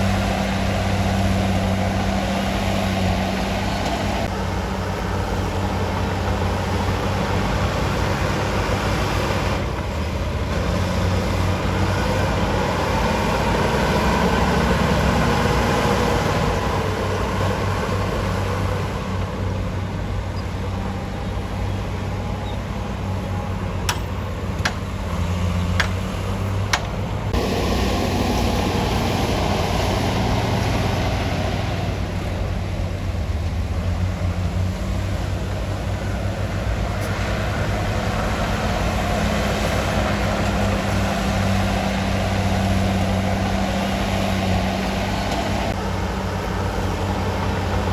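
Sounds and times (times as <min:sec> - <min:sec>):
bulldozer diesel engine running: 0:00.0 - 0:47.9.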